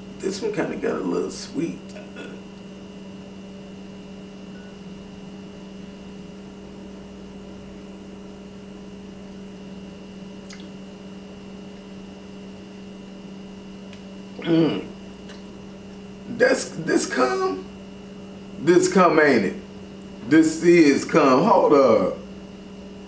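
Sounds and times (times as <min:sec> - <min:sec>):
low room tone hum: 0:00.0 - 0:23.0.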